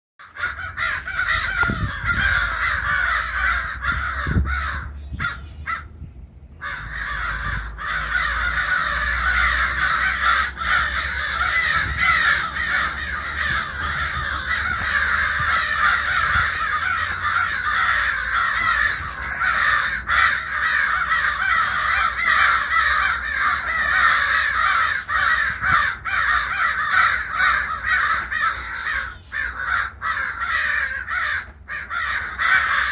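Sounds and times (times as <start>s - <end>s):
crows cawing: 0.2s - 6.0s, 6.6s - 32.9s.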